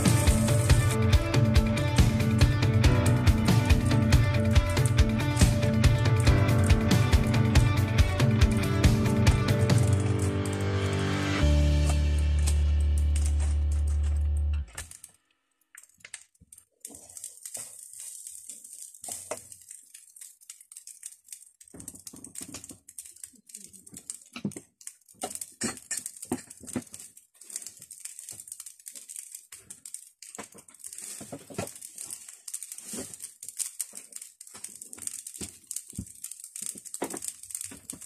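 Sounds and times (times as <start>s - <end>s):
light sizzle: 0.0s - 38.0s.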